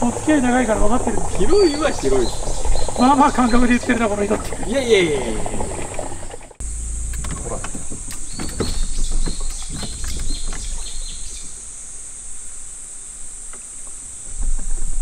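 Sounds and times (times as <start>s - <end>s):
high-pitched drone from woods: 0.0s - 14.9s.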